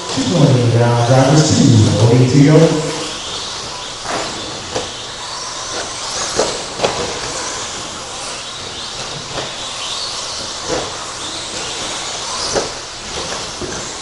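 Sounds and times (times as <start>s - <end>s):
electric rc trucks racing: 0.0s - 14.0s
high motor whines: 0.0s - 14.0s.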